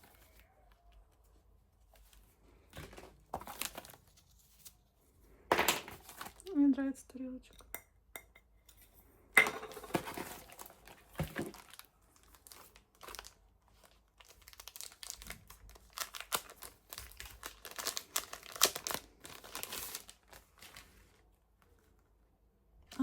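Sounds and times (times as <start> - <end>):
crinkling rustling handling noise: 0.0 - 6.8, 9.6 - 22.2.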